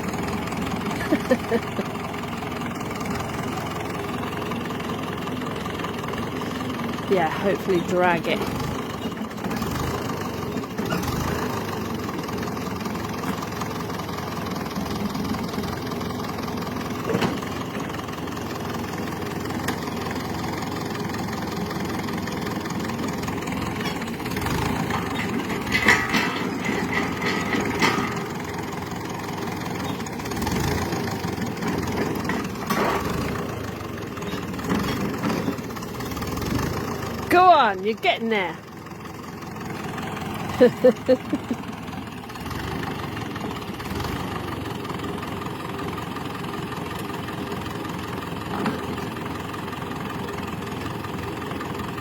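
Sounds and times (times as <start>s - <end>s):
tractor engine under load: 0.0s - 52.0s.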